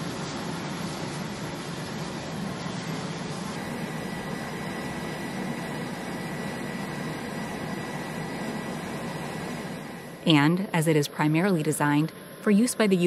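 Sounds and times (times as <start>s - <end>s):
high engine whine: 0.0s - 13.0s
jet engine rumble: 0.0s - 13.0s.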